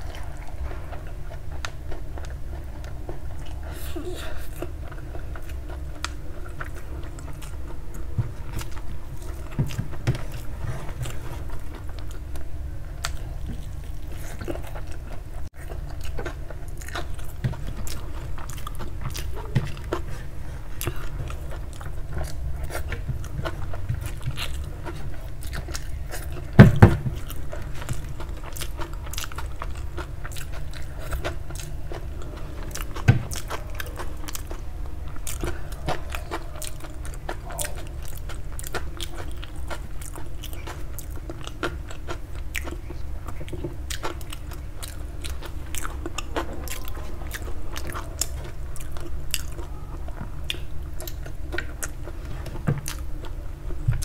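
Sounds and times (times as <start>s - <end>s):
person chewing and biting food: 0.0s - 54.0s.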